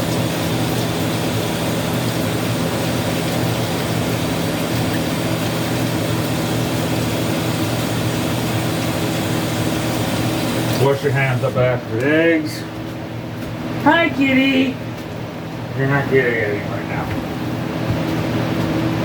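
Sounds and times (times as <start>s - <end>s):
tap water running: 0.0s - 19.0s.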